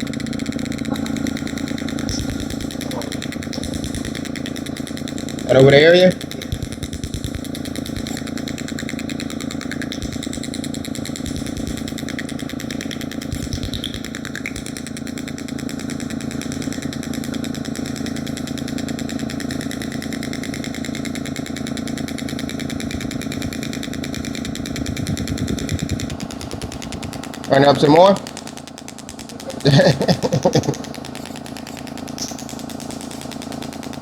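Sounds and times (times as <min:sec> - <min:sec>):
rapid mechanical tapping buzz: 0:00.0 - 0:34.0.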